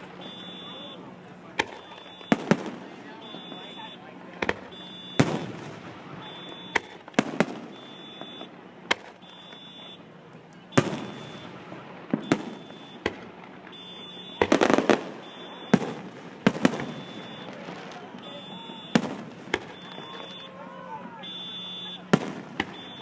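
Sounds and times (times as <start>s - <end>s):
fireworks booming: 0.0s - 23.0s
fireworks crackling: 0.0s - 23.0s.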